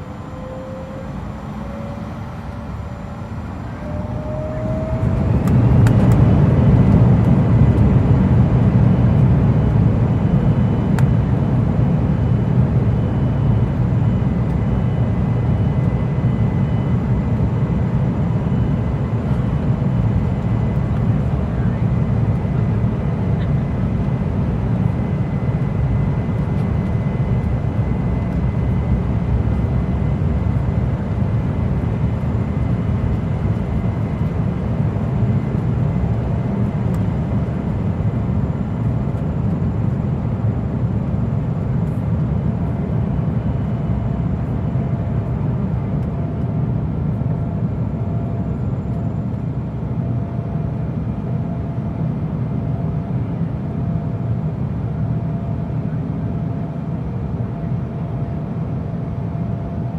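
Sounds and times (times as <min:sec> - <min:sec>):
deep rumble of jet engines: 0:00.0 - 0:59.9.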